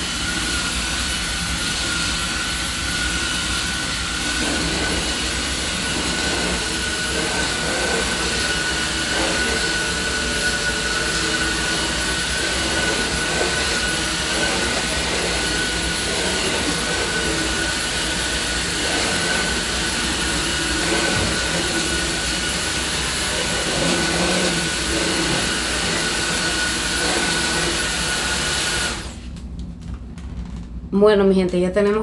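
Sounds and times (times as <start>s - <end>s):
vacuum cleaner motor whine: 0.0s - 29.5s.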